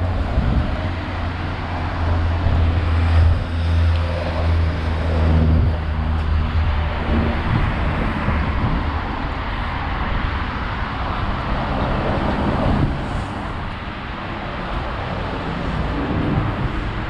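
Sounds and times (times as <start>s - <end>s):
low engine hum: 0.0s - 17.0s
road traffic hum: 0.0s - 17.0s.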